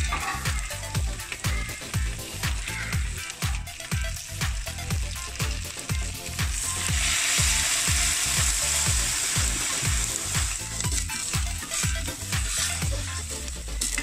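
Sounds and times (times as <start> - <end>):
background music with a beat: 0.0 - 14.0
meat sizzling in a pot: 0.0 - 14.0.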